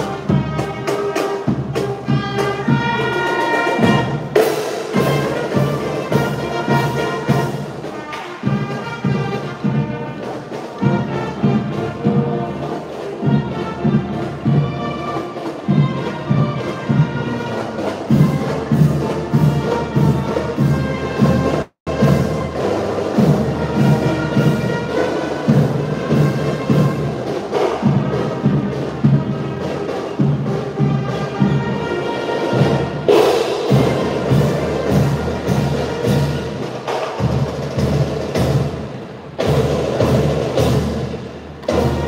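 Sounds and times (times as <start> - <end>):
brass notes: 0.0 - 42.0
marching drum beat: 0.0 - 42.0.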